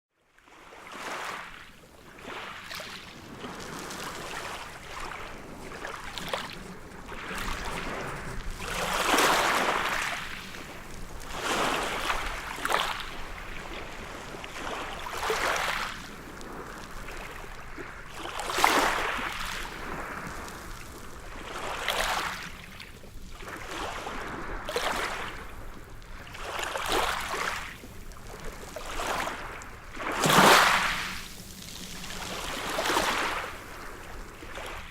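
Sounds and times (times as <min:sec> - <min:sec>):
ocean waves breaking on beach: 0:00.4 - 0:34.9.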